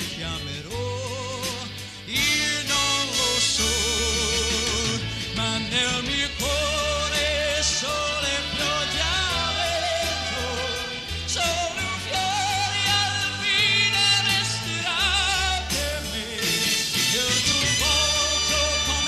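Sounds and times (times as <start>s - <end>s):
band backing: 0.0s - 19.0s
man singing pop song: 0.0s - 19.0s.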